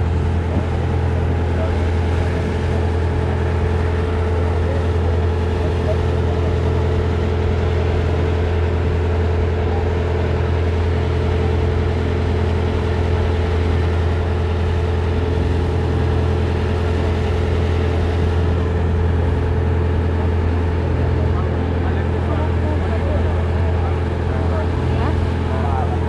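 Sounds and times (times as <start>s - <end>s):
ferry engine droning: 0.0s - 26.0s.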